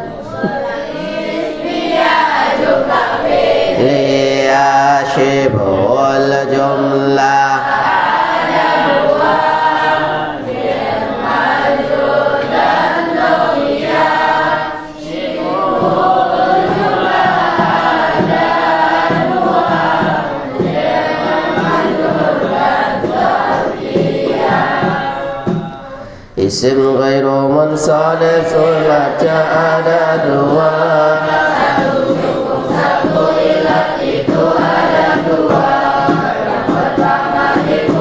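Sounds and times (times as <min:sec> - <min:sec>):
voices chanting in unison: 0:00.0 - 0:38.0.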